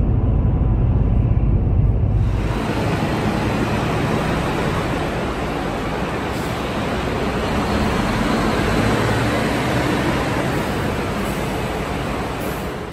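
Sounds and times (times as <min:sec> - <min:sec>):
bus engine pulling away: 0:00.0 - 0:12.9.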